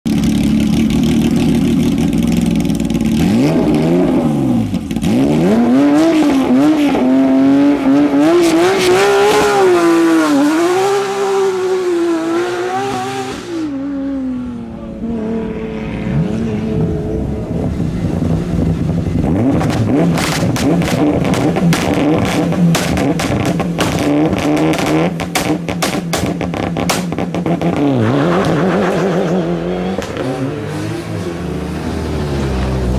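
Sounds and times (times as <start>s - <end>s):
rally car engine revving: 0.1s - 32.9s.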